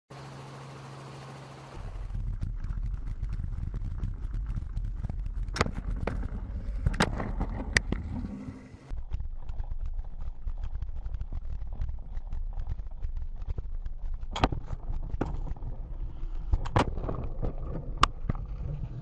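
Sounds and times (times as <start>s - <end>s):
bike rattling over rough ground: 1.8s - 19.0s.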